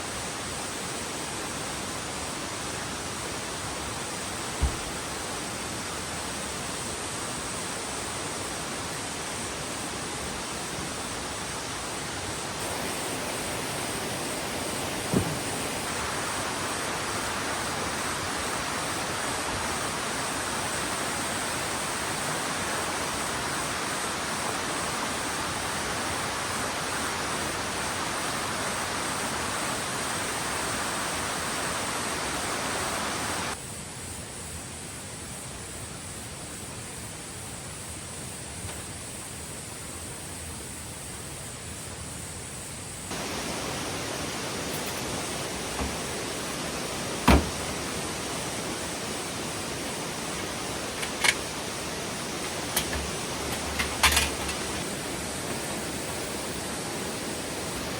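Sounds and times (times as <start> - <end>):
stream rushing: 0.0 - 33.6, 43.1 - 57.9
insects chirring: 0.0 - 57.9.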